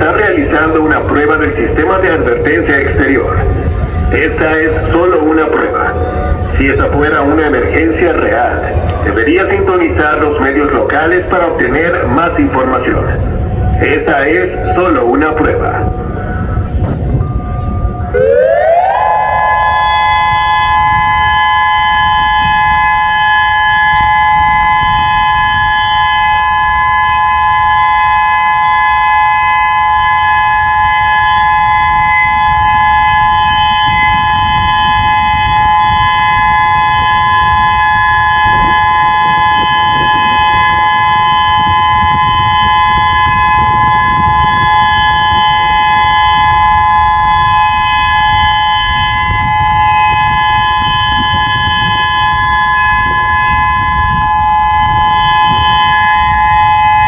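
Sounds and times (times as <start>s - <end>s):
low rumble: 0.0s - 57.0s
two-tone warning siren: 0.0s - 57.0s.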